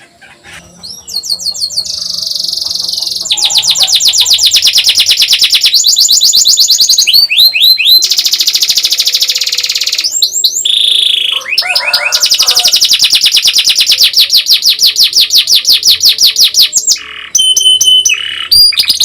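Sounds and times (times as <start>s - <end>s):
canary singing and trilling: 0.0s - 19.0s.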